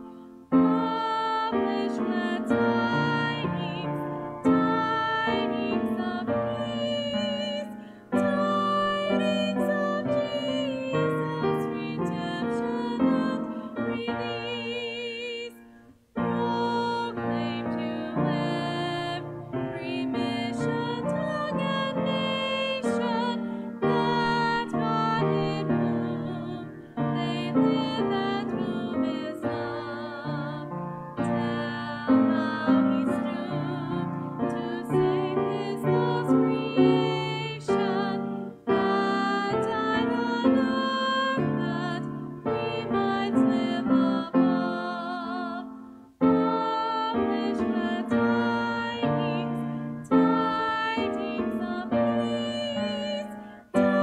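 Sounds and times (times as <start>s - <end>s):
piano: 0.0s - 54.0s
woman singing a hymn: 0.0s - 54.0s.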